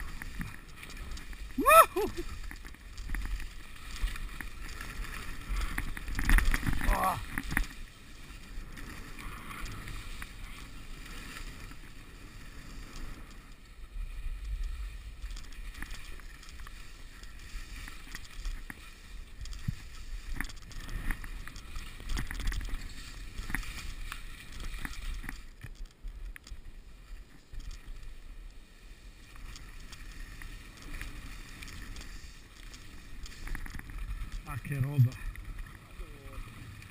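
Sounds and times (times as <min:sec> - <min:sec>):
skis swishing through wet snow: 0:00.0 - 0:36.9.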